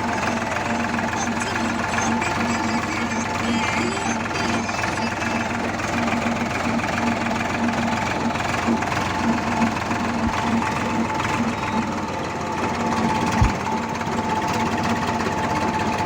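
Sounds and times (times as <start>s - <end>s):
diesel engine running with knock: 0.0s - 16.0s.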